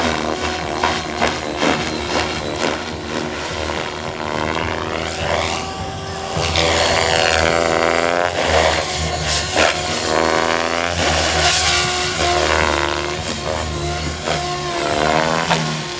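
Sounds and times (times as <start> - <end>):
rc helicopter rotor whine: 0.0 - 15.9.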